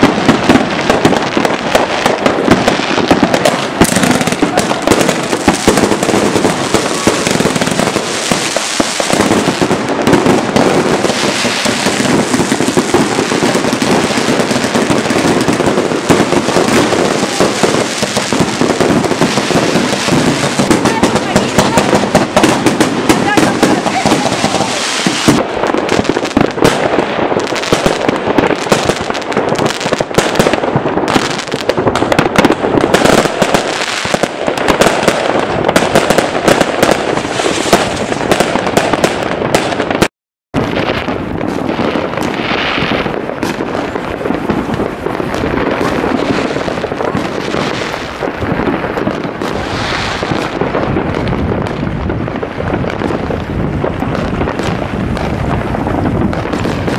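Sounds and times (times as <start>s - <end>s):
fireworks bangs and pops: 0.0s - 56.9s.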